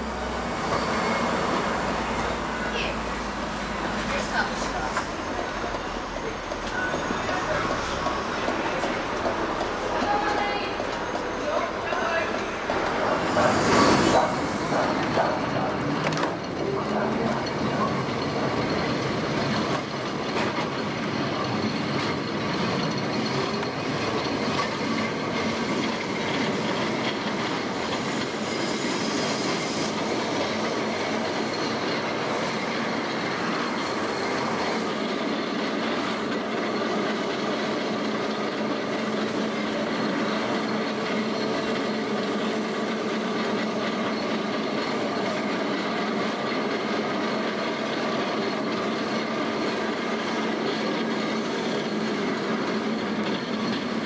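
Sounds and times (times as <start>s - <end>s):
tram wheels rumbling on track: 0.0s - 54.0s
high wheel squeal: 0.4s - 3.0s, 4.1s - 9.1s, 10.0s - 54.0s.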